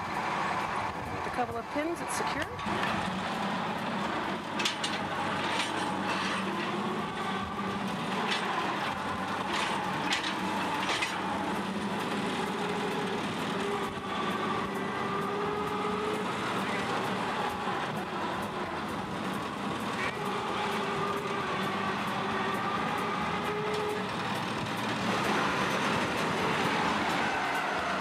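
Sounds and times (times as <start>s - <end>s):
forklift engine running: 0.0s - 28.0s.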